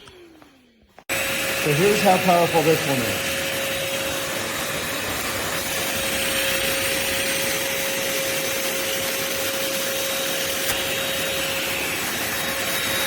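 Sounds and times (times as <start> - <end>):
stick vacuum running: 0.0 - 13.0.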